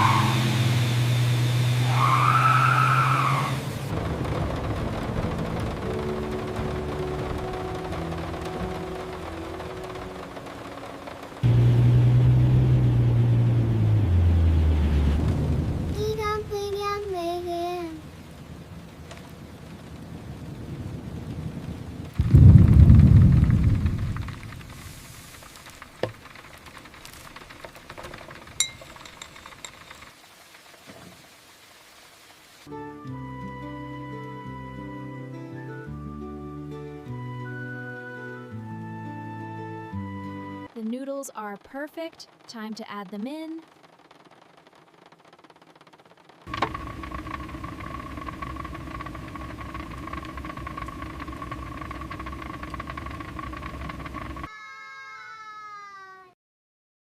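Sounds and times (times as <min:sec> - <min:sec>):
faint rain hiss: 0:00.0 - 0:54.5.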